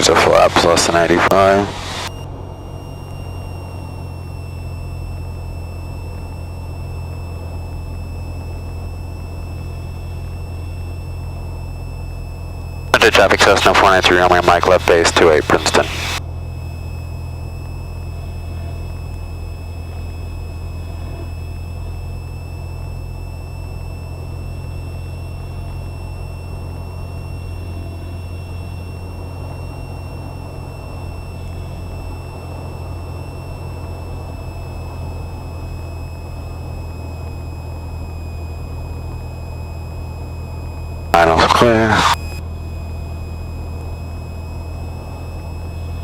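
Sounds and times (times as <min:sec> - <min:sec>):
aircraft engine and propeller droning: 0:00.0 - 0:46.0
high-pitched whine: 0:00.0 - 0:46.0.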